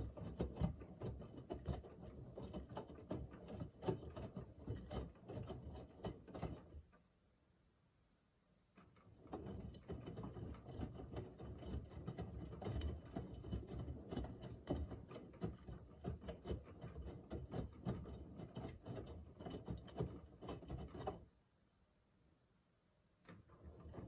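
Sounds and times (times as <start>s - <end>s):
laundry tumbling in washing machine: 0.0s - 6.9s, 8.9s - 21.2s, 23.3s - 24.0s.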